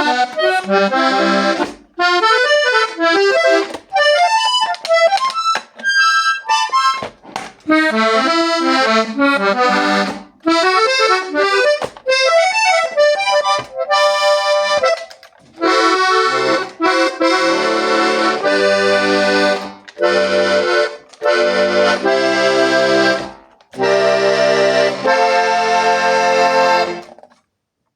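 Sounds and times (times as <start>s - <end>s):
button accordion playing: 0.0s - 27.2s.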